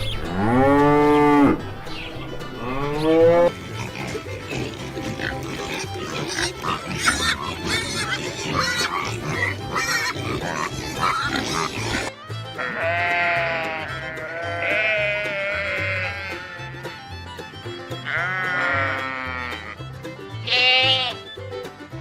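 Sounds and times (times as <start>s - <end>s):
farm animal calls: 0.0s - 17.1s, 17.9s - 21.3s.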